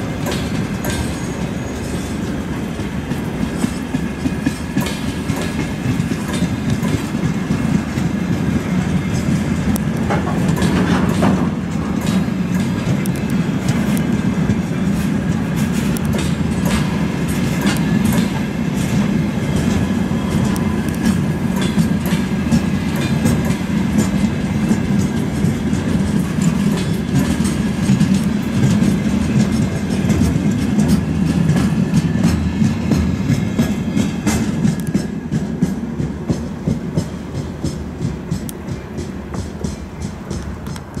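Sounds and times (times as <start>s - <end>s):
freight cars rumbling: 0.0s - 41.0s
wheels clattering on rails: 0.0s - 41.0s.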